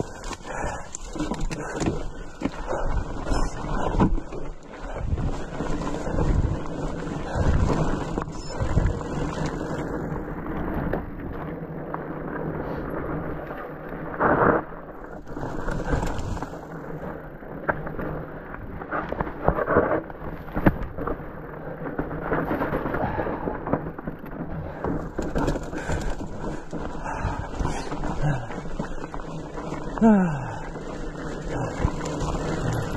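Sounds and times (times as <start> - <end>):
bike knocking and rattling: 0.0 - 32.9
bike tyres crunching on dirt: 0.0 - 32.9.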